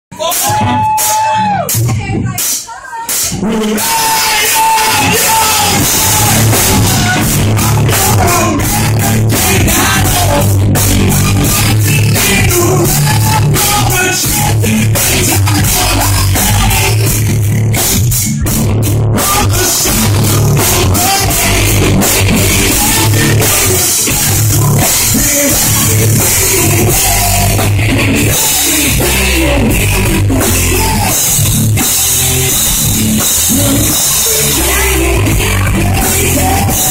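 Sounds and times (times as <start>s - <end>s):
rock band playing: 0.1s - 36.9s.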